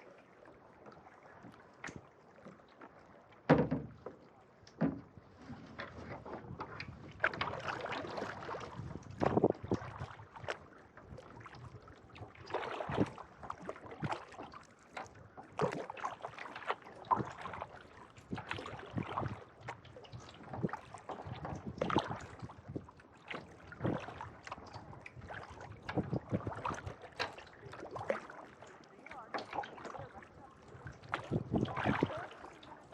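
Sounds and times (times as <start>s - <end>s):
kayak paddle splashing in water: 0.0s - 32.9s.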